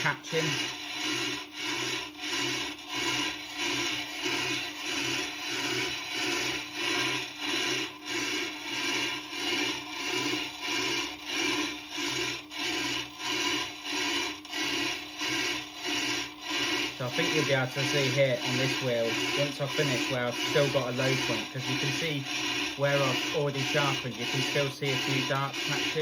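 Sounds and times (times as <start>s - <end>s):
diamond cutter scraping grinding stone: 0.0s - 26.0s.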